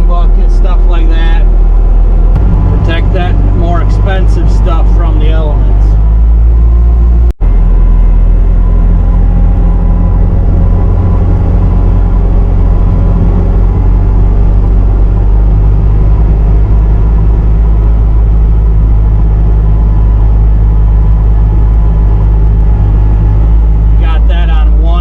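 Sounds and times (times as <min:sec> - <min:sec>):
diesel engine running steadily: 0:00.0 - 0:25.0.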